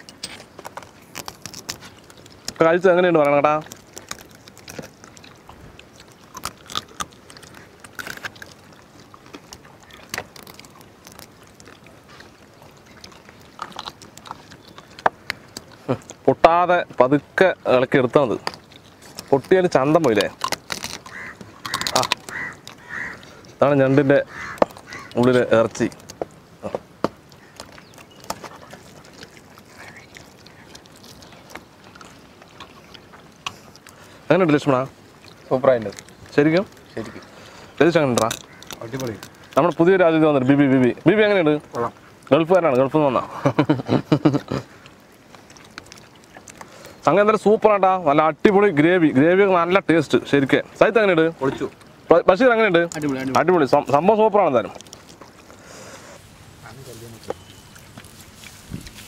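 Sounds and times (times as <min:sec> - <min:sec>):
crab shells cracking: 0:00.0 - 0:47.1, 0:51.5 - 0:55.7
chewing: 0:00.0 - 0:59.0
faint steady background noise: 0:00.0 - 0:59.0
open-air background hiss: 0:00.0 - 0:59.0.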